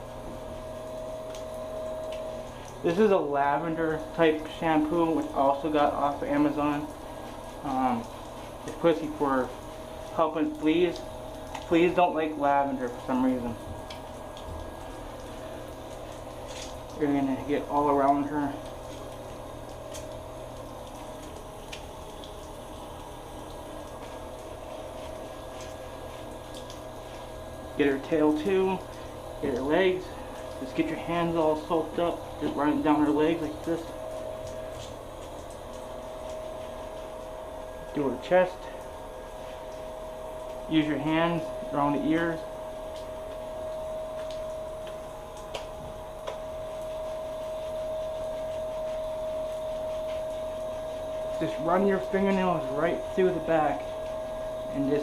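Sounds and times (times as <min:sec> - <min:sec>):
hands lathering wet fur: 0:00.0 - 0:55.0
steady hiss and low hum: 0:00.0 - 0:55.0.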